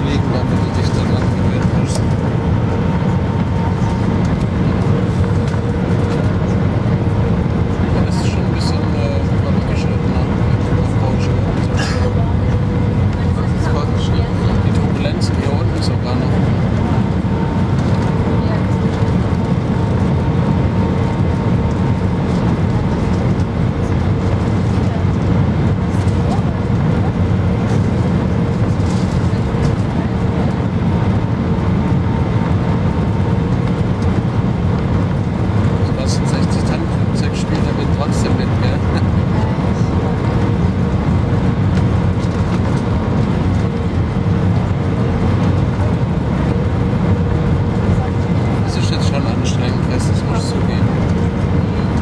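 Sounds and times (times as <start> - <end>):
airplane engine and air rumble: 0.0 - 52.0
faint constant hum: 0.0 - 52.0.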